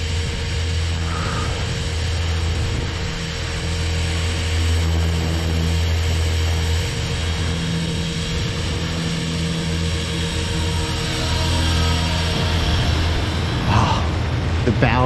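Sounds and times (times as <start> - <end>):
rc helicopter rotor drone: 0.0 - 15.0.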